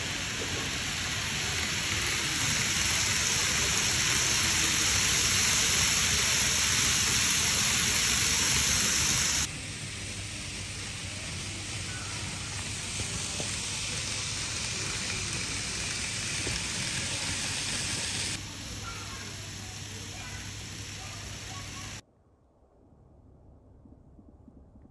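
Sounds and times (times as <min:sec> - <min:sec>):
model trains rushing hiss: 0:00.0 - 0:22.0.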